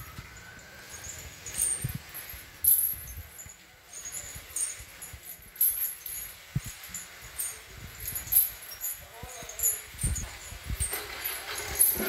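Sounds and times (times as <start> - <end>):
iron chains clinking: 0.0 - 12.0.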